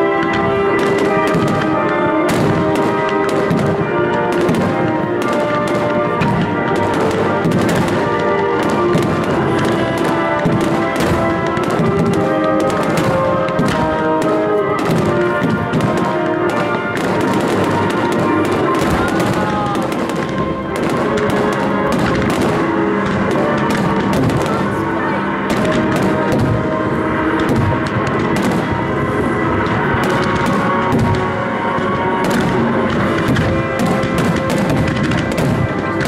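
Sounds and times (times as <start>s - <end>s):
fireworks bursting with crackle: 0.0s - 36.0s
loud music: 0.0s - 36.0s.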